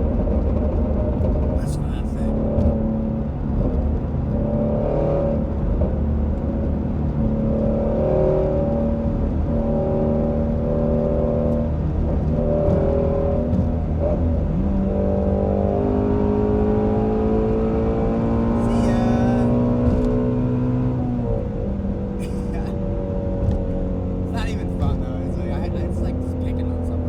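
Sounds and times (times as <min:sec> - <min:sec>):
car engine cruising: 0:00.0 - 0:27.0.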